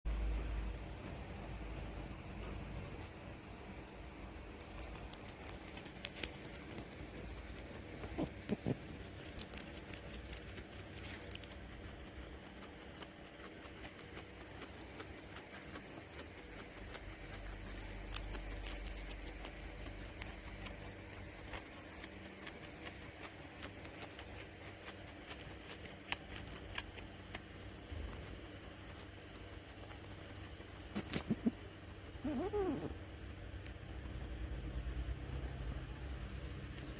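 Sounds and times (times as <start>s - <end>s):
guinea pig chewing food: 0.1s - 36.9s.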